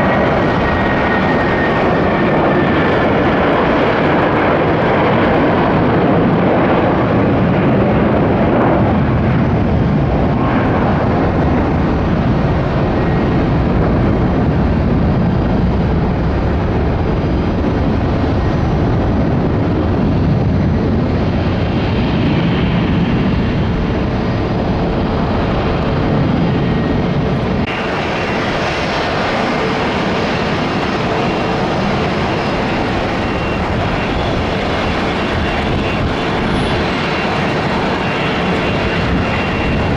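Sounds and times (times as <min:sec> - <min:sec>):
jet engines taking off: 0:00.0 - 0:39.9.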